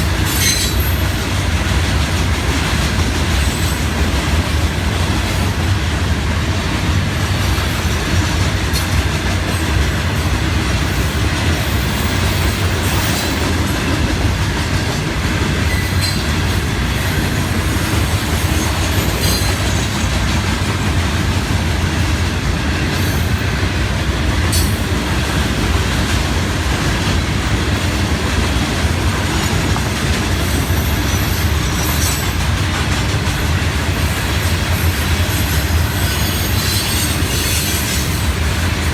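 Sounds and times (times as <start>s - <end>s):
freight train rumble: 0.0s - 38.9s
train wheel clatter: 0.0s - 38.9s.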